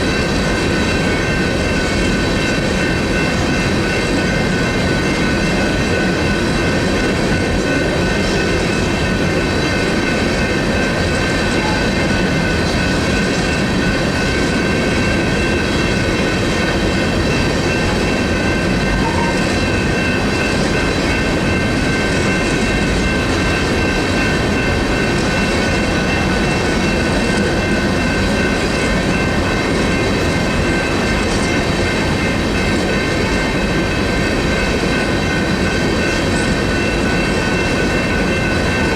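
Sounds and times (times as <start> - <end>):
freight train rumbling on rails: 0.0 - 38.9
electronic crossing bells ringing: 0.1 - 38.9.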